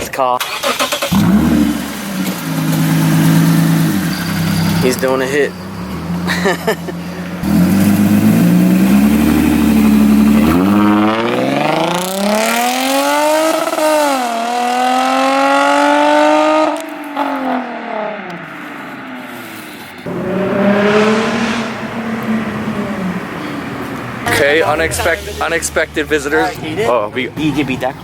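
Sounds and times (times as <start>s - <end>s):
car engine accelerating hard: 0.5s - 28.0s.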